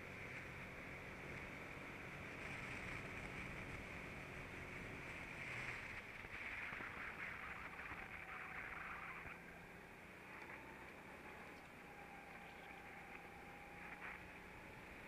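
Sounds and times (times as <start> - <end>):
go-kart engine drone: 0.0 - 15.0
wind and driving noise: 0.0 - 15.0.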